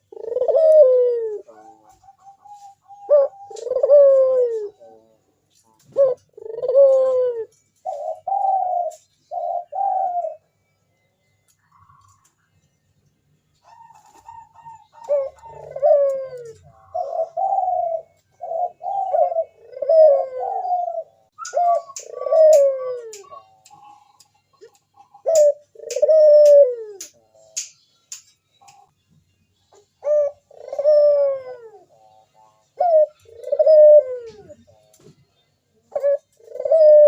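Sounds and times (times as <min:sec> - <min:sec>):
dove cooing: 0:00.0 - 0:05.2, 0:05.8 - 0:10.6, 0:13.6 - 0:27.2, 0:29.7 - 0:35.1, 0:35.8 - 0:37.0.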